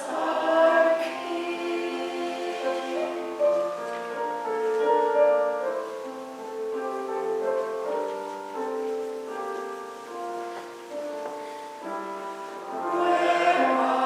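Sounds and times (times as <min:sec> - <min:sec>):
church keyboard chords: 0:00.0 - 0:14.0.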